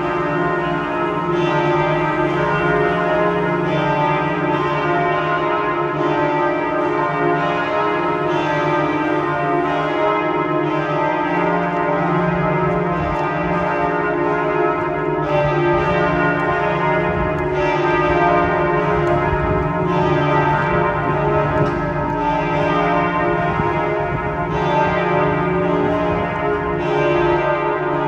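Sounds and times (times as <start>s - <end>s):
church bells pealing: 0.0s - 28.0s.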